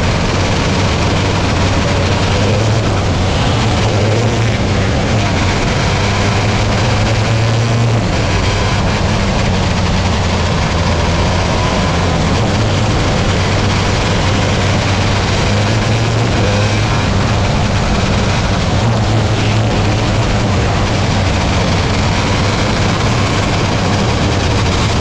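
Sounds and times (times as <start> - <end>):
race car engine at high revs: 0.0 - 25.0
rushing noise: 0.0 - 25.0.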